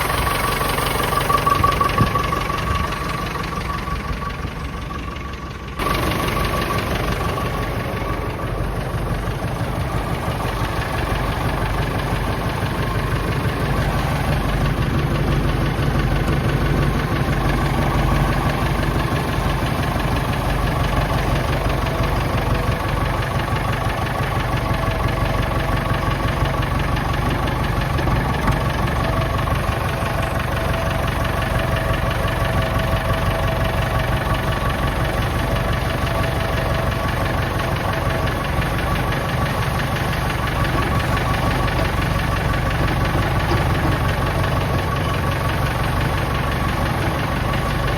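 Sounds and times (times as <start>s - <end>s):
tractor diesel engine idling: 0.0s - 47.9s.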